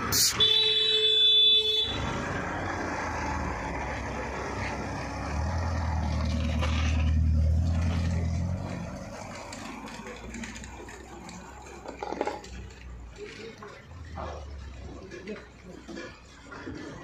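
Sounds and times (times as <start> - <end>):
vehicle engine passing by: 1.8 - 17.0.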